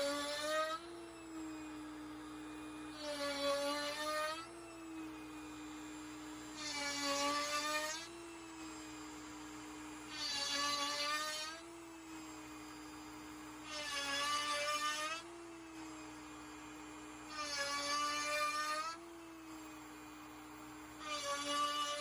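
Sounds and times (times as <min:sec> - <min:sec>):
router bit cutting wood: 0:00.0 - 0:22.0
router motor spinning: 0:00.0 - 0:22.0.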